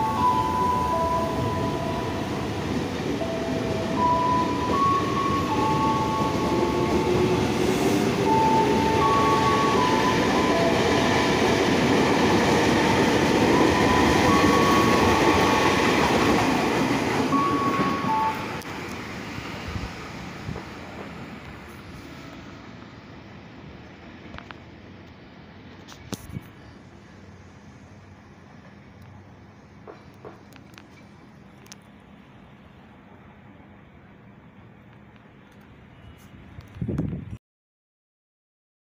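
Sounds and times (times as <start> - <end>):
electric train rumbling past: 0.0 - 25.9, 26.5 - 36.7.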